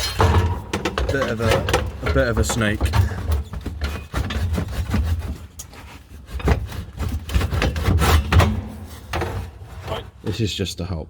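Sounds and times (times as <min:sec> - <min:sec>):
hands rubbing and knocking on pipe: 0:00.7 - 0:10.3.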